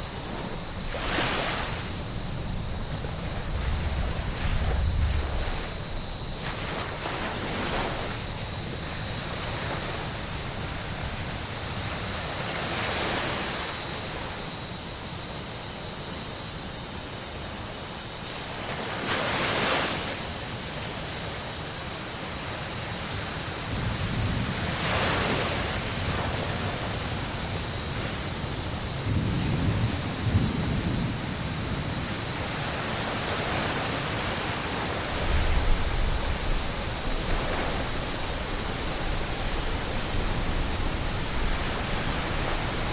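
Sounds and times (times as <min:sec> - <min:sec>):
ocean waves breaking on beach: 0:00.0 - 0:42.9
wind rumble on microphone: 0:00.0 - 0:42.9.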